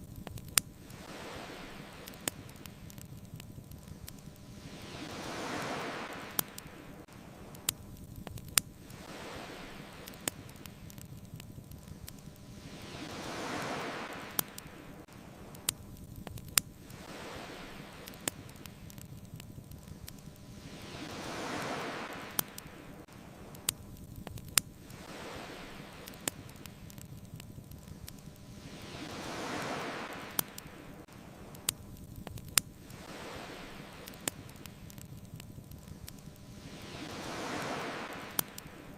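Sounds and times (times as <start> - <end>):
crackling bonfire pops: 0.0 - 38.9
ocean waves washing onto shore: 0.0 - 38.9.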